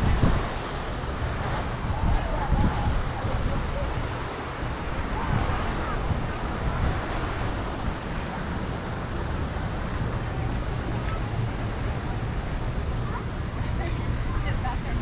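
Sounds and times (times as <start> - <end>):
faint chatter of passers-by: 0.0 - 15.0
wind buffeting microphone: 0.0 - 15.0.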